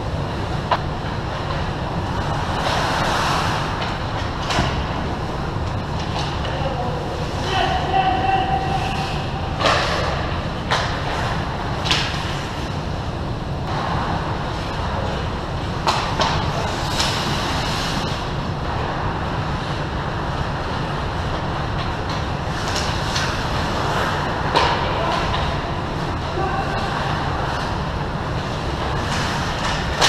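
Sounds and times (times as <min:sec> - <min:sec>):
low rumble of ice rink: 0:00.0 - 0:30.0
skate blades and sticks on ice: 0:00.6 - 0:12.8, 0:13.7 - 0:30.0.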